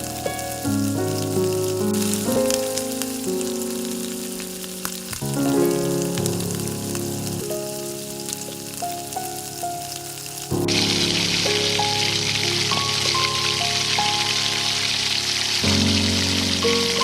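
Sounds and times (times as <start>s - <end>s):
background music: 0.0s - 17.0s
hot oil sizzling: 0.0s - 17.0s.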